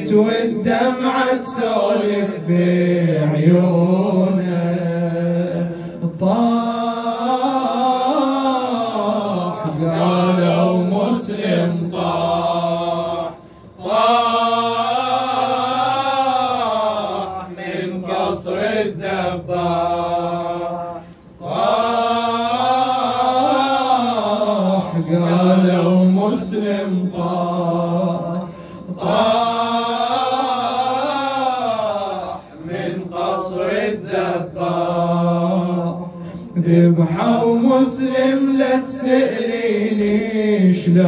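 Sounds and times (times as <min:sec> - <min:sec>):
man chanting a lament: 0:00.0 - 0:21.1, 0:21.7 - 0:33.9.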